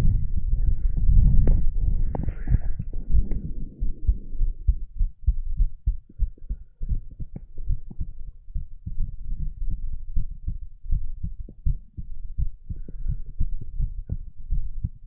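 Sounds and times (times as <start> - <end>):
heartbeat thuds: 0.0 - 15.0.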